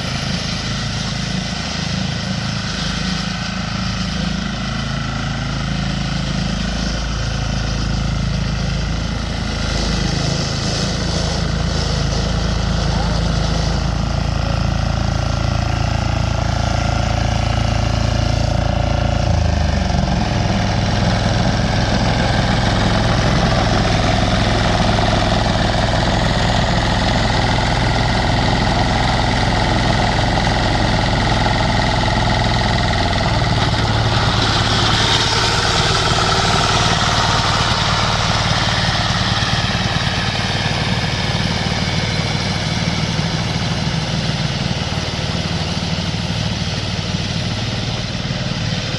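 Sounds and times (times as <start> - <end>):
lawn mower engine running: 0.0 - 48.9.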